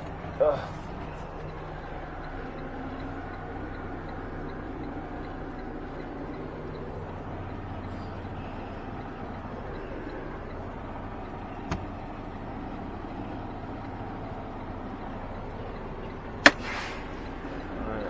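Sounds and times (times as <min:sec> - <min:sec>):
diesel truck engine running: 0:00.0 - 0:18.0
faint quick ticking: 0:00.0 - 0:18.0.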